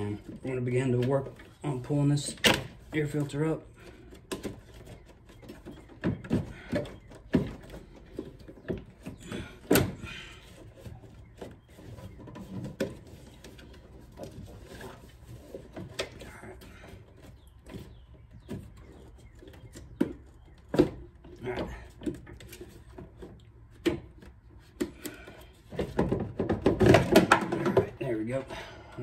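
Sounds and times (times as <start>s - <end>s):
hard plastic knocks and scrapes: 0.0s - 28.4s.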